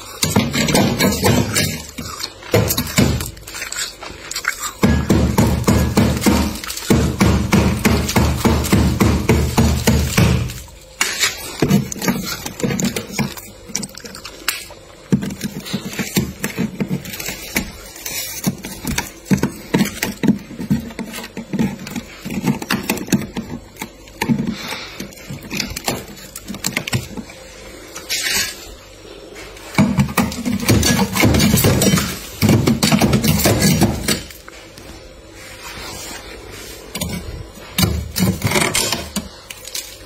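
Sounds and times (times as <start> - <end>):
frost and ice crunching: 0.0 - 40.0.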